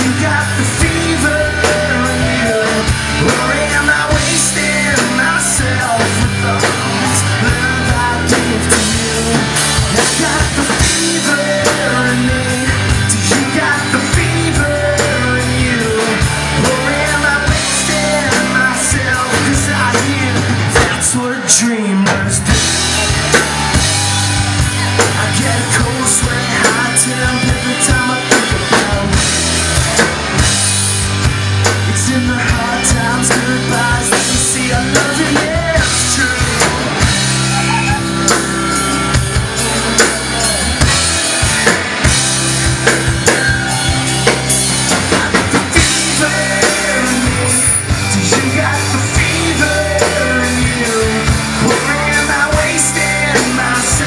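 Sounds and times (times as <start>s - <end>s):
bass guitar: 0.0s - 54.0s
drum kit steady beat: 0.0s - 54.0s
electric guitars: 0.0s - 54.0s.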